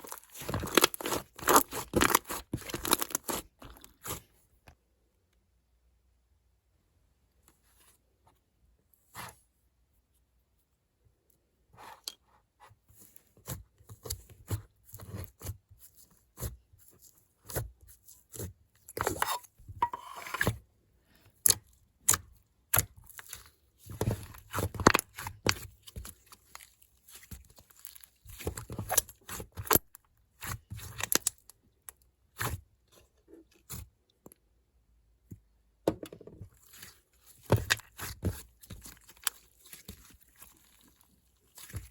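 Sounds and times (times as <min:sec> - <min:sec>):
slime squished and stretched by hand: 0:00.0 - 0:05.6, 0:11.7 - 0:19.4, 0:20.5 - 0:35.8, 0:36.4 - 0:41.9.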